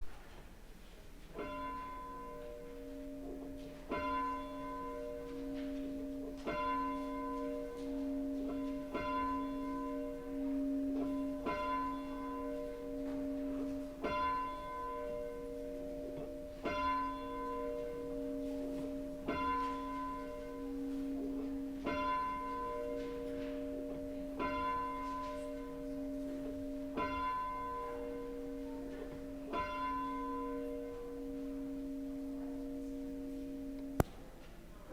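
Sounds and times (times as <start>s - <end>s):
church bell tolling: 1.3s - 34.0s.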